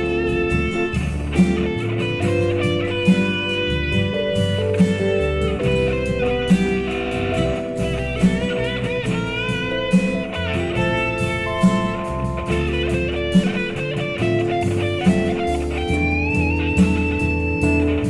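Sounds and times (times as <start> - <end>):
bass and drums: 0.0 - 18.0
electric guitar lead: 0.0 - 18.0.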